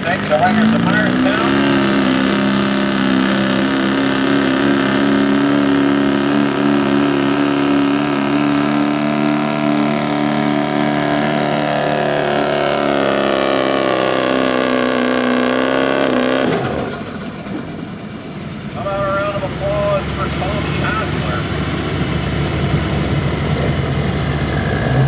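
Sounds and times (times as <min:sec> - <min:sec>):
diesel truck engine revving hard: 0:00.0 - 0:25.0.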